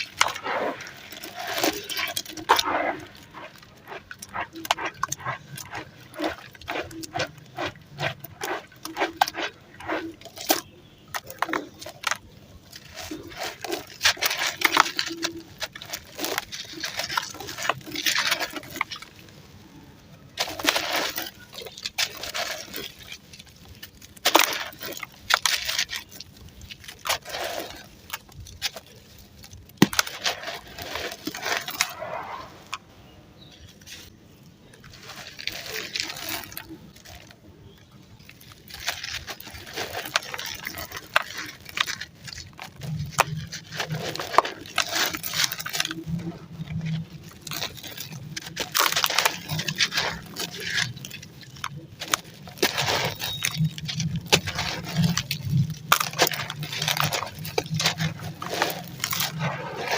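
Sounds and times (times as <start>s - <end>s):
ash crunching and crumbling: 0.0s - 59.9s.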